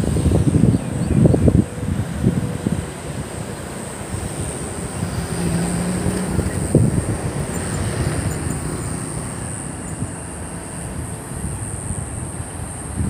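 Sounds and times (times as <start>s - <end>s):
faint high whine: 0.0s - 13.0s
low engine hum: 0.0s - 13.0s
wind rumbling on microphone: 0.0s - 13.0s.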